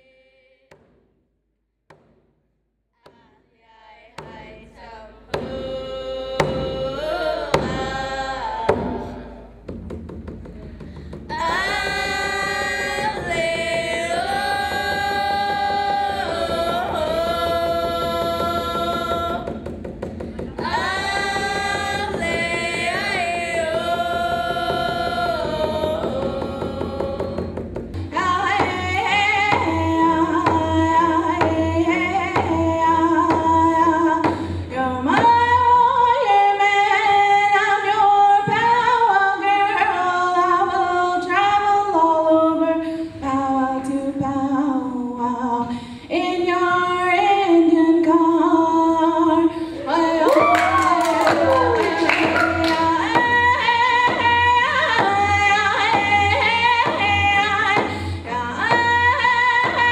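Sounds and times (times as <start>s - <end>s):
young woman singing into microphone: 3.1s - 9.4s, 11.3s - 19.5s, 20.6s - 27.5s, 28.1s - 59.9s
music with solo singing voice: 3.8s - 9.7s, 11.3s - 19.8s, 20.4s - 59.9s.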